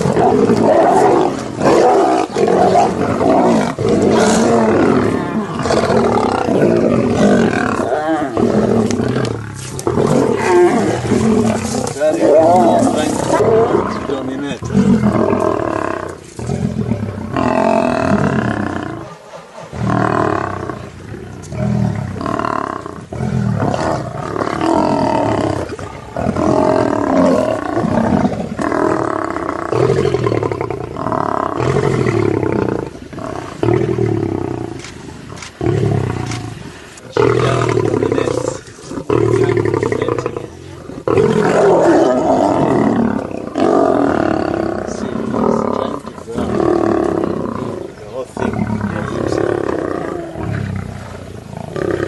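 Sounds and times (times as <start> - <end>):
lions growling and snarling: 0.0 - 52.0.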